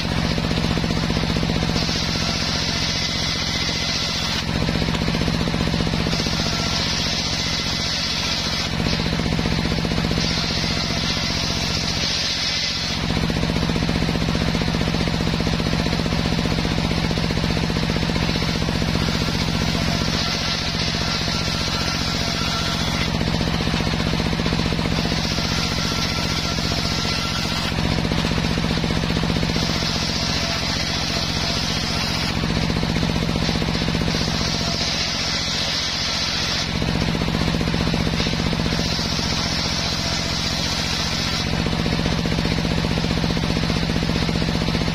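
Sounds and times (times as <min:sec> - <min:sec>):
saw blade cutting wood: 0:00.0 - 0:44.9
table saw running: 0:00.0 - 0:44.9.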